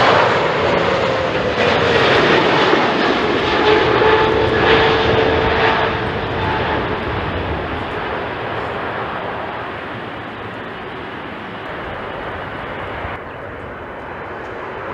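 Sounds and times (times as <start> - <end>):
jet airliner engines passing: 0.0 - 14.9.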